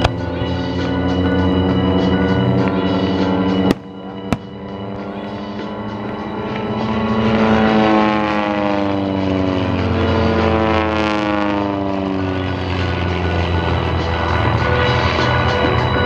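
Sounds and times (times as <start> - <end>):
propeller planes flying past: 0.0 - 16.0.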